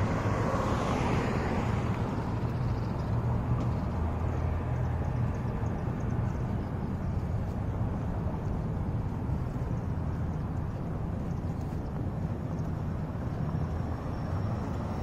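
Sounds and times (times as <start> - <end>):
car passing: 0.0 - 15.0
steady low rumble: 1.5 - 15.0.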